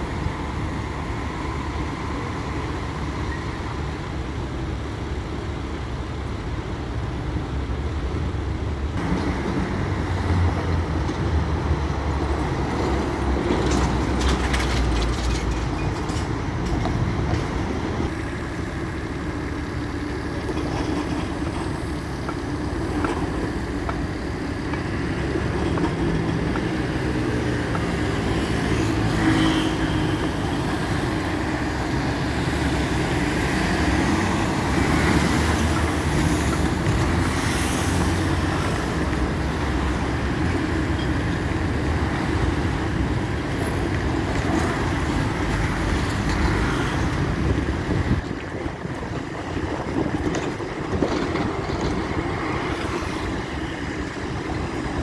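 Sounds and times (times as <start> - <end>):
traffic engine and tyre noise: 0.0 - 55.0.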